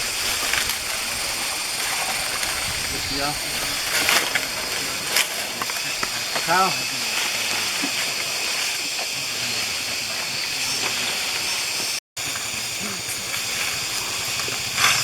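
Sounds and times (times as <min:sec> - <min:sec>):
faint voices: 0:00.0 - 0:15.0
steady hiss: 0:00.0 - 0:15.0.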